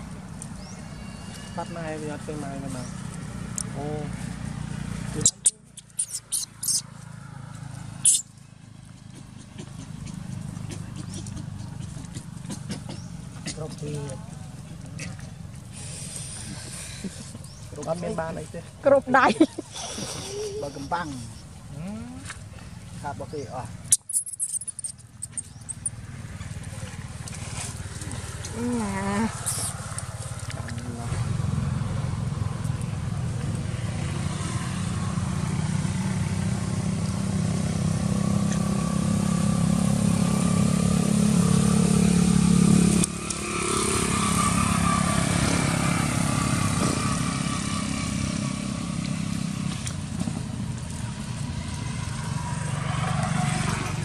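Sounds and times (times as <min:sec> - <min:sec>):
motorcycle engines droning: 0:00.0 - 0:54.0.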